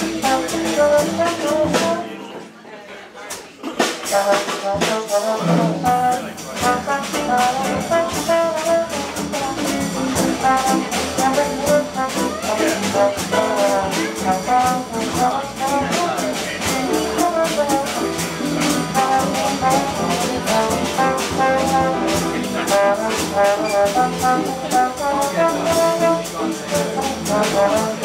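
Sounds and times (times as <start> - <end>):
trombone melody: 0.0 - 2.0, 4.1 - 28.0
jazz combo playing swing: 0.0 - 2.4, 3.8 - 28.0.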